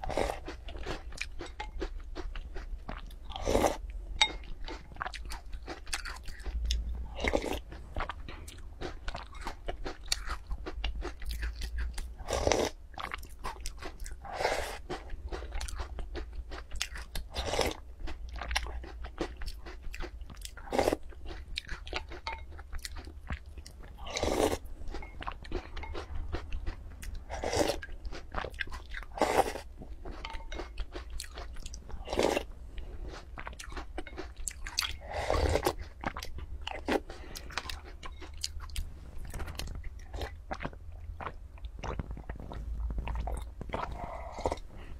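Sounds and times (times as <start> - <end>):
chewing and crunching: 0.0 - 44.9.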